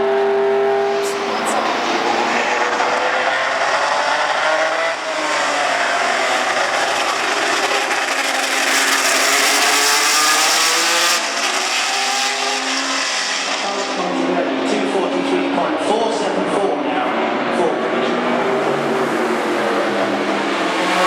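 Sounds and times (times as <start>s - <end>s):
racing car engine passing: 0.0s - 21.0s.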